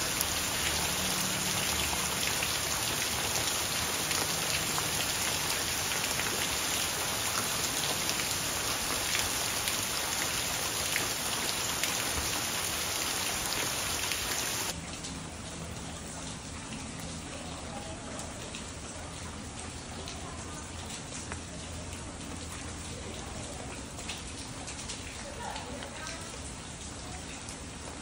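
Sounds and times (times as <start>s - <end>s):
raindrops ticking on surfaces: 0.0s - 28.0s
steady rain falling: 0.0s - 28.0s.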